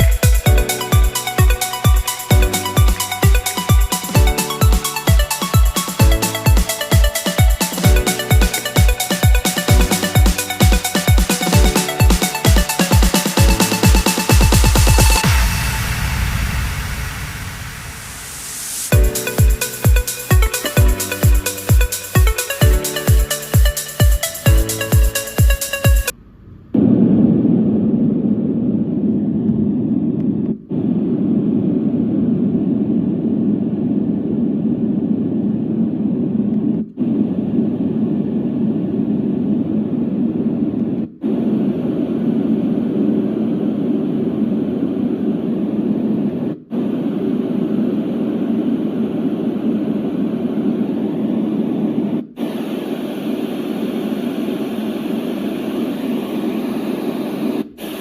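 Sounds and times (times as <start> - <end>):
white noise machine: 0.0 - 58.0.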